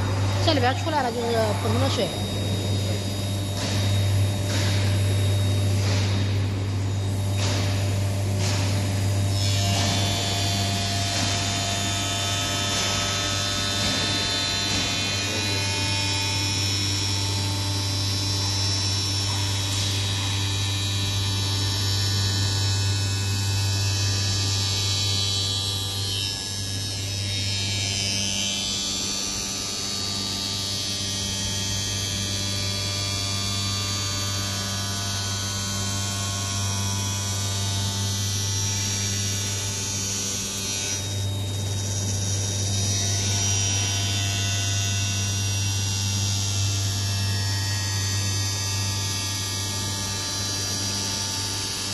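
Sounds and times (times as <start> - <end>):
machine low hum: 0.0 - 51.9.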